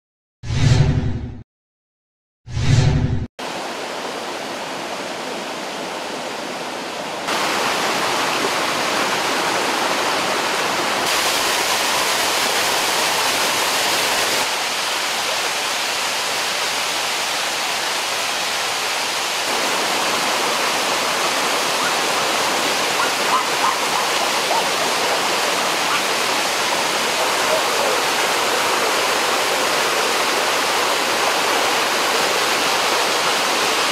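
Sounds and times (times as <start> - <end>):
waterfall rushing over rocks: 3.4 - 33.9.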